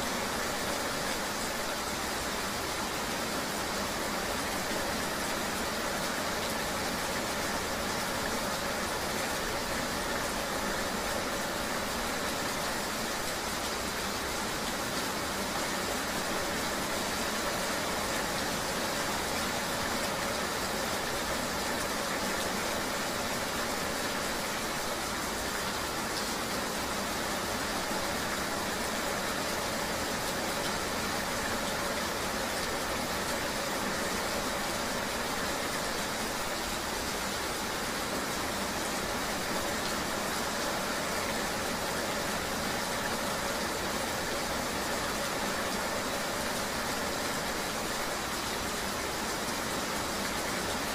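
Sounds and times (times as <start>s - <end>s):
rain hiss: 0.0s - 50.9s.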